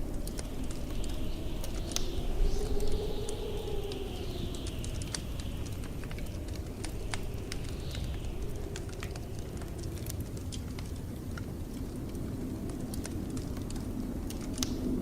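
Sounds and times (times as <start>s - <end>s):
blizzard wind rumbling: 0.0s - 15.0s
wood fire crackling: 0.0s - 15.0s.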